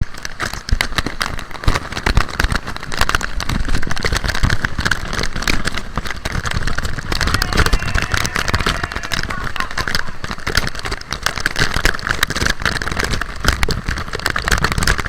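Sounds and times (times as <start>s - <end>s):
crackles: 0.0s - 15.0s.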